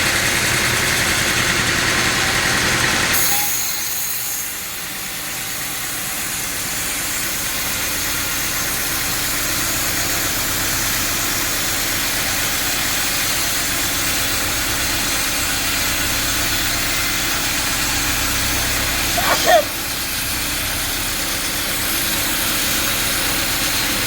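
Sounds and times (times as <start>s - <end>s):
sawmill machine hum with hiss: 0.0s - 24.0s.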